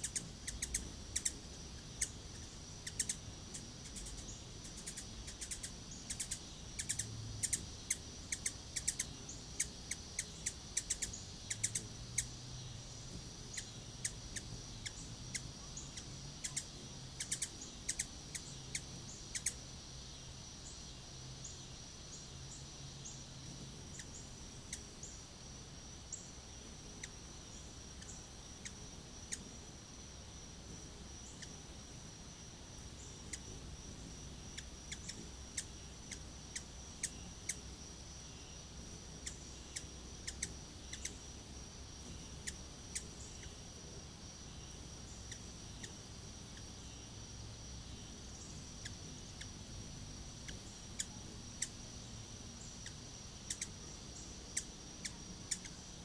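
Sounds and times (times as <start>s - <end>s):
hummingbird chip notes: 0.0s - 19.8s, 23.4s - 29.7s, 30.6s - 43.7s, 48.0s - 55.8s
steady high-pitched whine: 0.0s - 56.0s.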